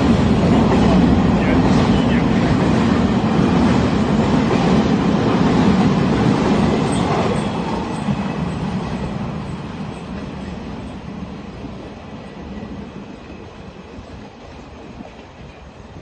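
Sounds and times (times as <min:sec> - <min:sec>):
train rolling on rails: 0:00.0 - 0:16.0.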